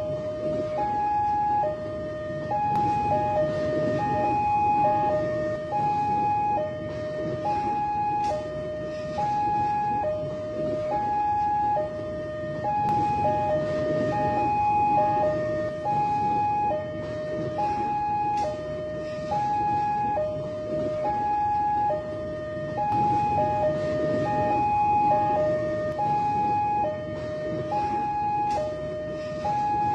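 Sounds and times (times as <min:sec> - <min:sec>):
level crossing two-tone alarm: 0:00.0 - 0:29.9.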